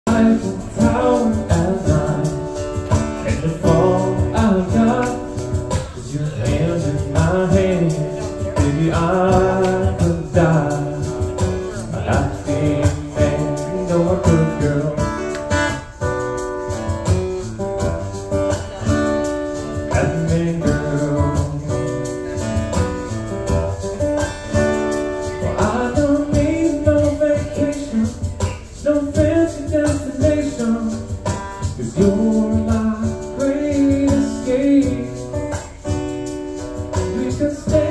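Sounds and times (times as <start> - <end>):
man singing: 0.0 - 16.0, 18.0 - 37.9
acoustic guitar strumming: 0.0 - 37.9.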